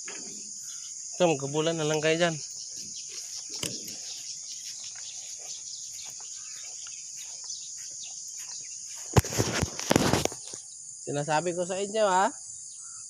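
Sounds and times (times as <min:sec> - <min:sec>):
faint bird chirps: 0:00.0 - 0:09.8, 0:12.3 - 0:13.0
insects droning: 0:00.0 - 0:13.0.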